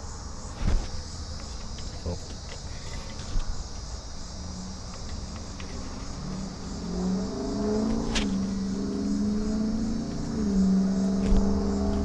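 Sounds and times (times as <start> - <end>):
insects chirring: 0.0 - 12.0
vehicle engine drone: 0.0 - 12.0.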